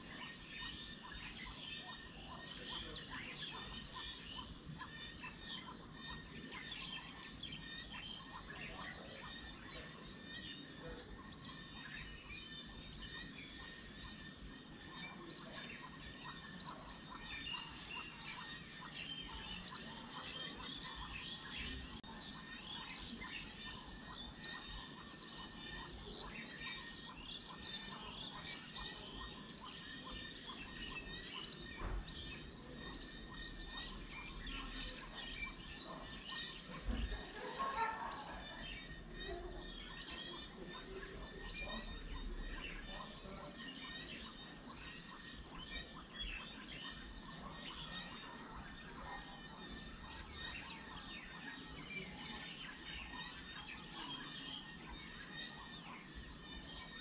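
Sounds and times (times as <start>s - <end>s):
birds chirping and calling: 0.0s - 57.0s
faint steady background noise: 0.0s - 57.0s.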